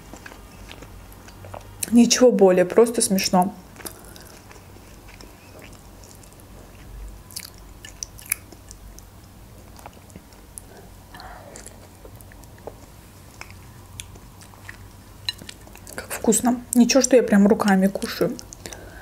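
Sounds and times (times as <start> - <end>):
quiet chewing: 0.0 - 1.9, 3.8 - 16.2, 17.7 - 18.9.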